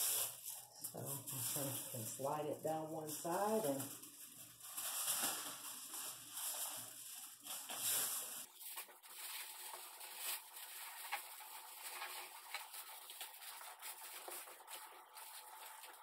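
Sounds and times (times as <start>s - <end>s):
aluminum foil crinkling: 0.0s - 16.0s.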